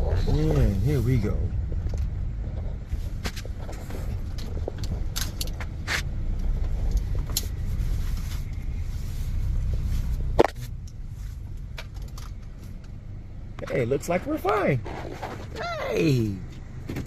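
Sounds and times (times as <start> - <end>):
car rumble from inside cabin: 0.0 - 17.0.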